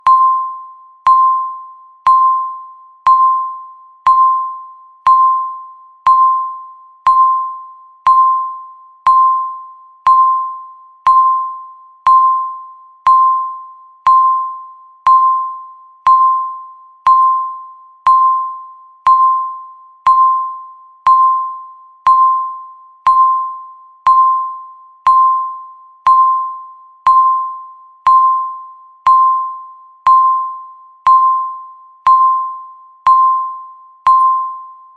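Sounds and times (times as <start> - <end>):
timer beeping: 0.0 - 34.9.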